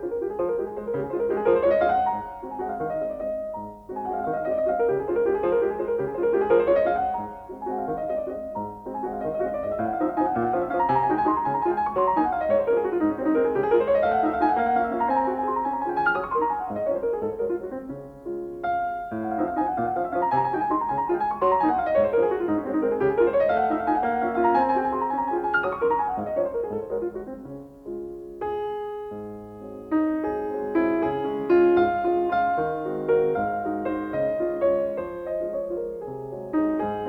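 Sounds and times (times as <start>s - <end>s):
solo piano music: 0.0s - 37.0s.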